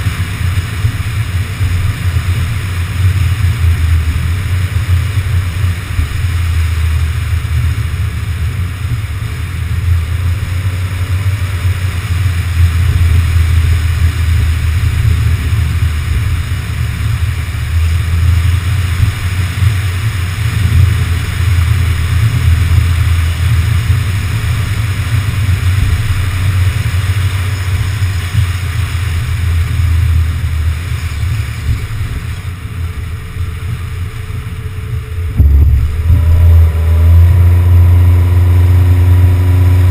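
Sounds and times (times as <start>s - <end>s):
steady hiss: 0.0s - 39.9s
wind and road noise rumble: 0.0s - 39.9s.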